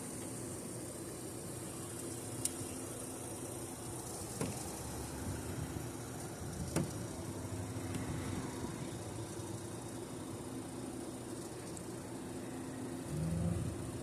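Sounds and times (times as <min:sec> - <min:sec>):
low hum: 0:01.5 - 0:14.0.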